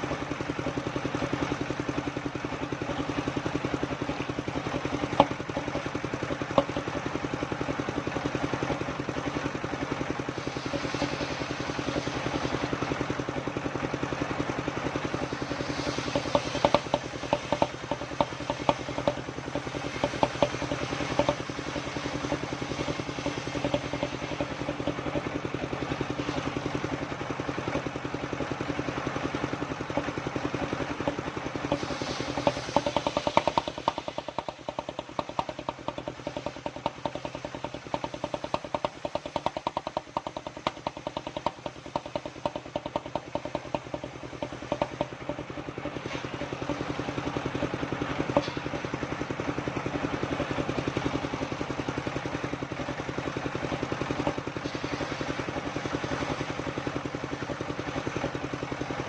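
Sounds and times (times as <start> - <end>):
fast rhythmic clatter: 0.0 - 59.0.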